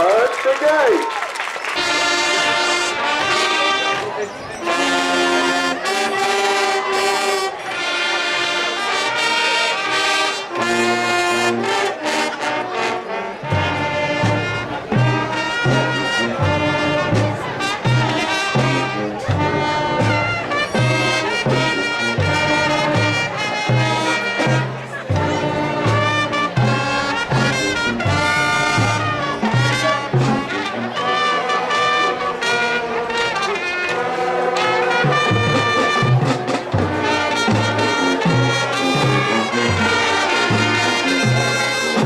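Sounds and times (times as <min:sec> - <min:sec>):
horns holding chords: 0:00.0 - 0:42.0.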